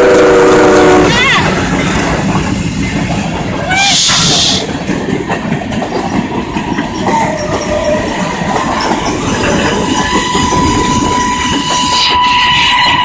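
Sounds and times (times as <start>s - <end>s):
freight train wheels clattering: 0.0s - 13.0s.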